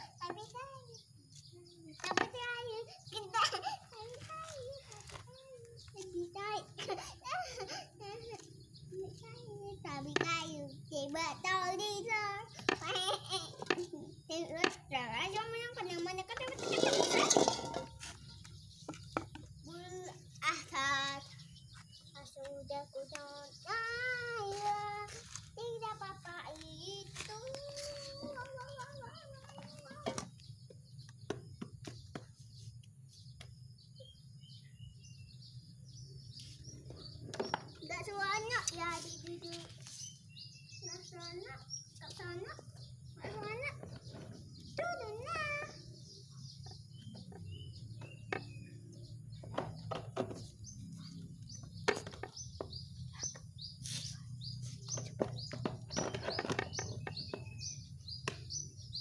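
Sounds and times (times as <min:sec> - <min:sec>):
bird chirps: 0:07.9 - 0:59.0.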